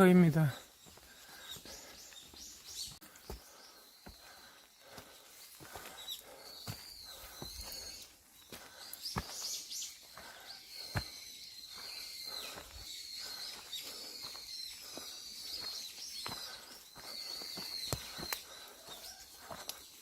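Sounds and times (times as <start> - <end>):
footsteps on a path: 0.0 - 20.0
small birds chirping: 0.0 - 20.0.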